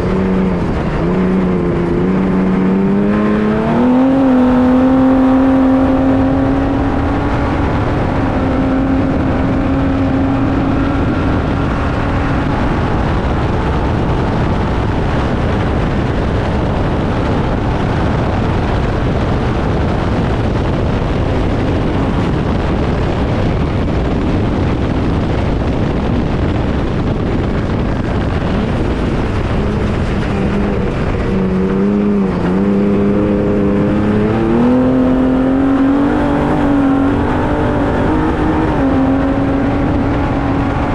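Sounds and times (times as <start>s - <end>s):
loud rushing noise: 0.0s - 24.4s, 25.8s - 40.9s
truck engine running hard: 0.0s - 40.9s.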